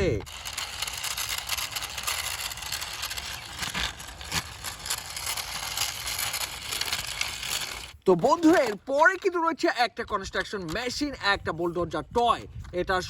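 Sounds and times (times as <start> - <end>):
toy wheels scraping rough surface: 0.0 - 13.0.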